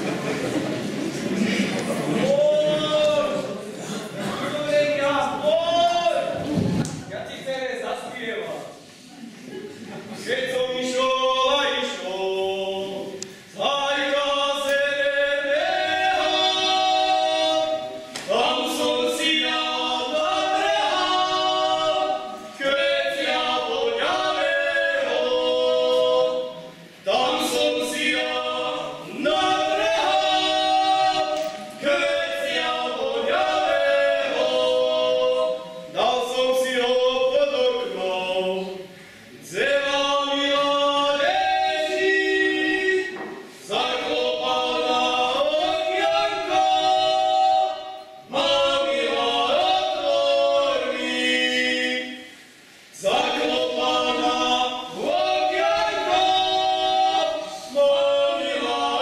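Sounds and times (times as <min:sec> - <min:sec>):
voices singing unaccompanied: 0:10.0 - 0:59.0.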